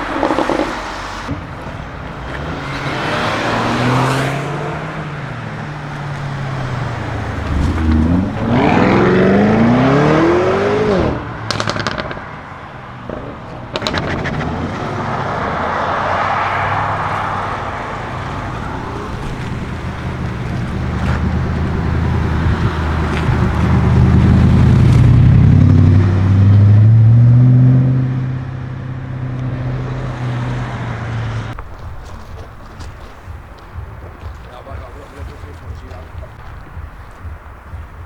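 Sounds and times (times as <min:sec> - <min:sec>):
exhaust crackles and pops: 0:00.0 - 0:27.2, 0:31.3 - 0:38.0
car engine revving: 0:00.0 - 0:38.0.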